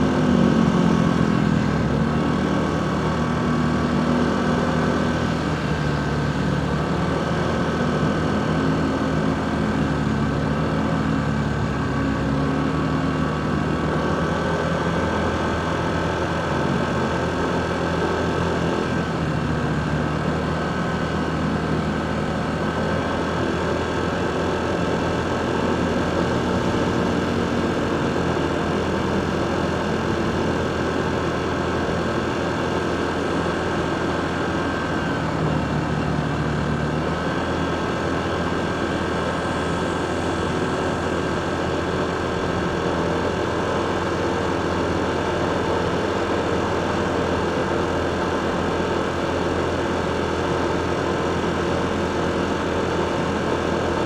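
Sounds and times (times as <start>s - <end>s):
city traffic noise: 0.0s - 54.0s.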